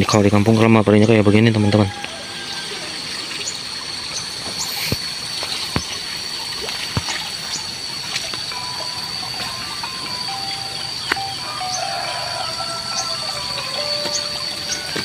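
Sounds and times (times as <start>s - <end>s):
high-pitched whine: 0.0s - 15.0s
water trickling into pond: 0.0s - 15.0s.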